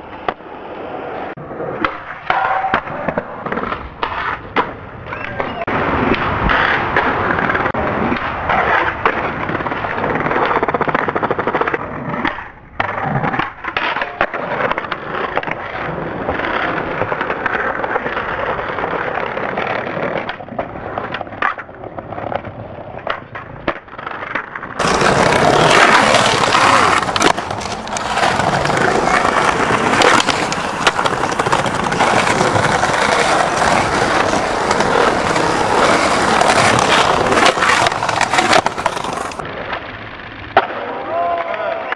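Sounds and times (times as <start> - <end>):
skateboard clacks and landings: 0.0 - 41.5
skateboard wheels rolling on pavement: 0.0 - 41.9
skateboard tail pops: 1.8 - 18.3, 19.5 - 39.8, 40.5 - 41.5.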